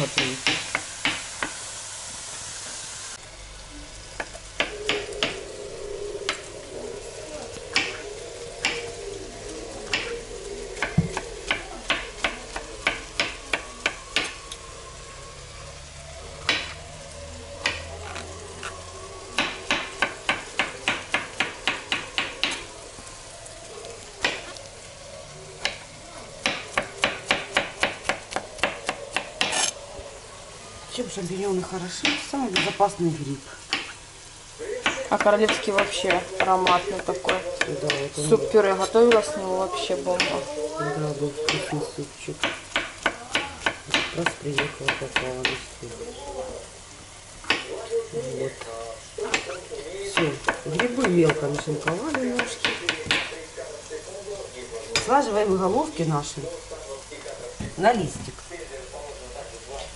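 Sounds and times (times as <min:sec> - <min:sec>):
bacon sizzling in a frying pan: 0:00.0 - 0:59.9.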